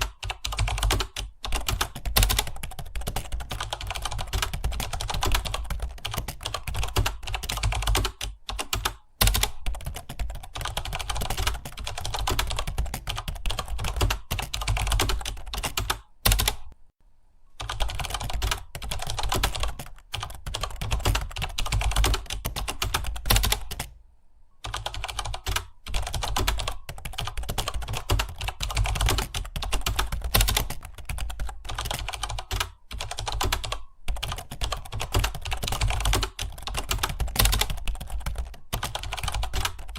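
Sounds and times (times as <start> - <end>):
fast keyboard typing: 0.0 - 16.8, 17.6 - 24.0, 24.6 - 39.9.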